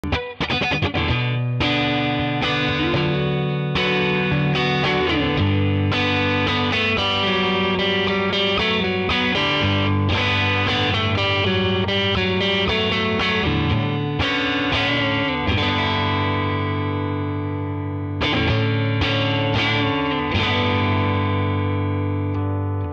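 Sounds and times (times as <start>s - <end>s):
electric guitar through amp: 0.0s - 22.9s.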